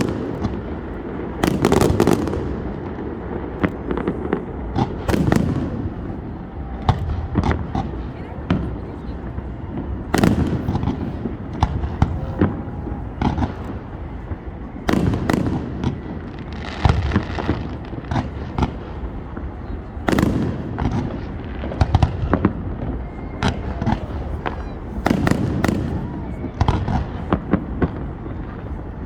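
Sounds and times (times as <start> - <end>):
fireworks bangs and pops: 0.0 - 29.0
fireworks crackling: 0.0 - 29.0.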